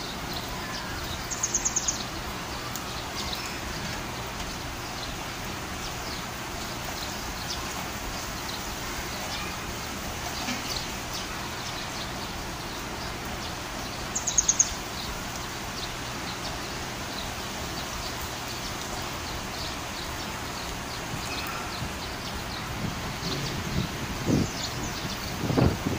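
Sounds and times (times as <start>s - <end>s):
birds chirping: 0.0s - 25.9s
steady rain: 0.0s - 25.9s.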